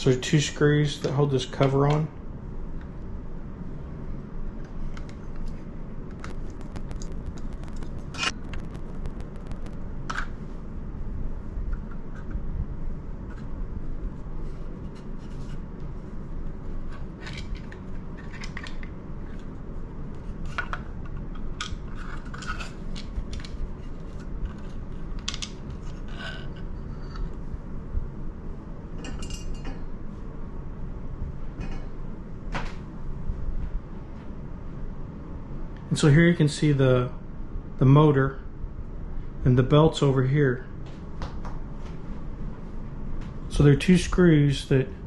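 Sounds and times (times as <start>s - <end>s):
low handling rumble: 0.0s - 45.0s.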